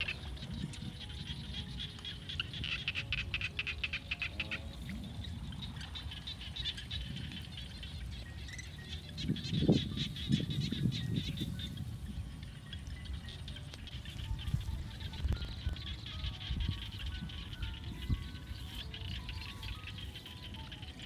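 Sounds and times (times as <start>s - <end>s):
high-pitched chirping trills: 0.0s - 21.0s.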